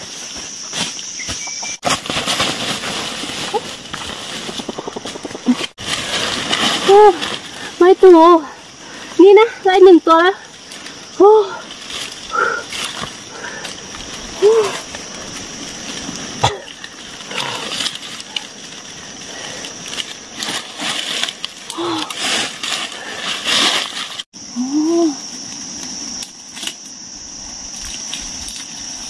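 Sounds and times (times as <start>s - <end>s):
leaves and net rustling: 0.0s - 29.0s.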